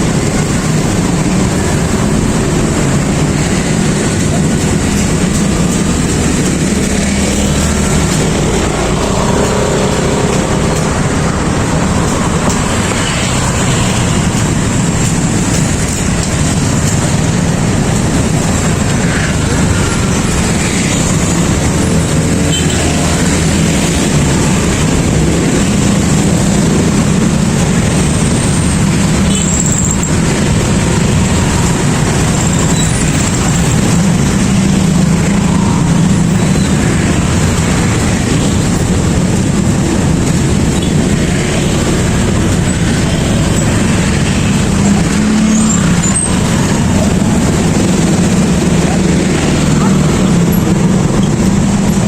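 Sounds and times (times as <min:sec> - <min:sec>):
busy street market din: 0:00.0 - 0:52.0.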